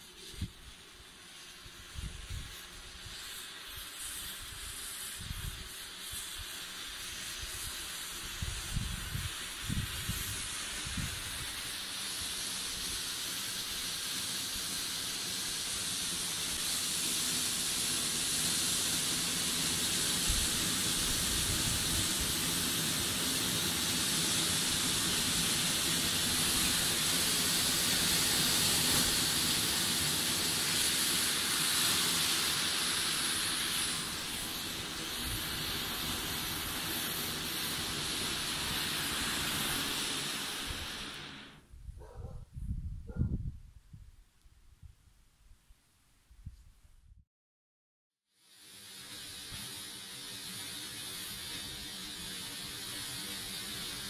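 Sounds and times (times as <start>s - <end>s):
fountain firework hissing: 0.0s - 41.7s, 48.3s - 54.0s.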